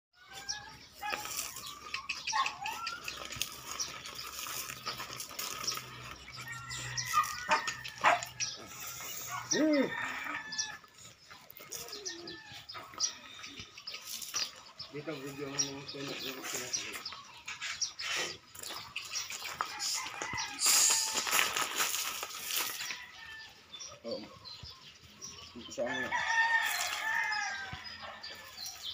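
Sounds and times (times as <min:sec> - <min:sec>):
birds chirping: 0:00.2 - 0:28.9
hooves crunching on gravel: 0:00.2 - 0:28.9.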